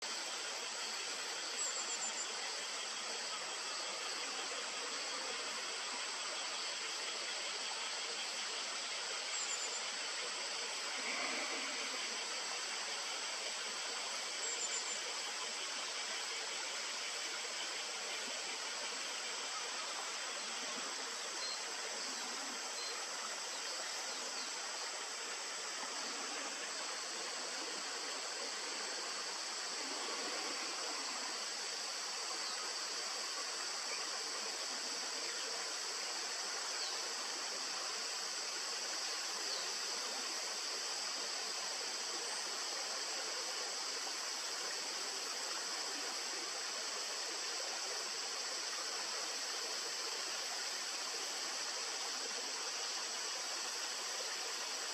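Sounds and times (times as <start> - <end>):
flowing stream: 0.0 - 54.9
high-pitched hiss: 0.0 - 54.9.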